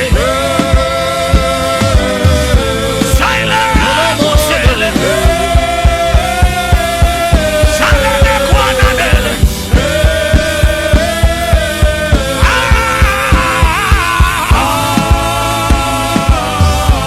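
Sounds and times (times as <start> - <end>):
held keyboard chords: 0.0 - 17.0
quick drum beat: 0.0 - 17.0.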